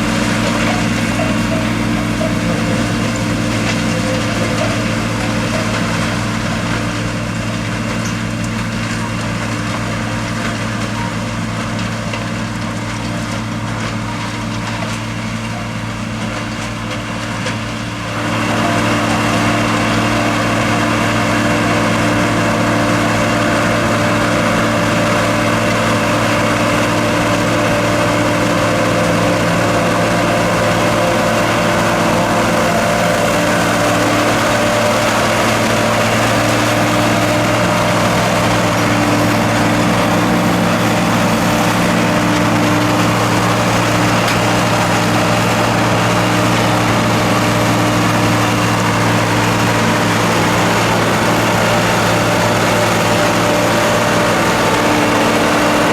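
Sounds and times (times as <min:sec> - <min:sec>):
diesel tractor engine running: 0:00.0 - 0:55.9
forage harvester chopping corn: 0:00.0 - 0:55.9.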